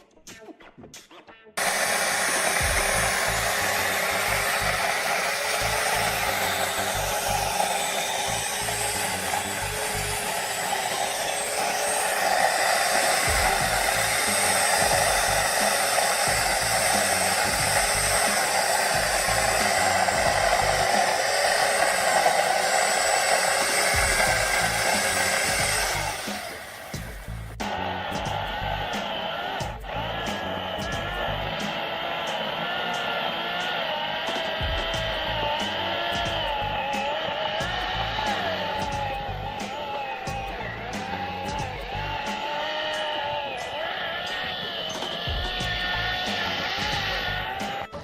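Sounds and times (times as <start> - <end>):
electric chainsaw whirring: 1.6 - 48.0.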